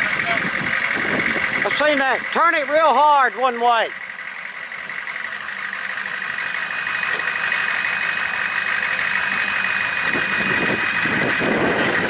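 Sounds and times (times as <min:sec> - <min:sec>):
higher whine: 0:00.0 - 0:12.0
truck engine idling: 0:00.0 - 0:12.0.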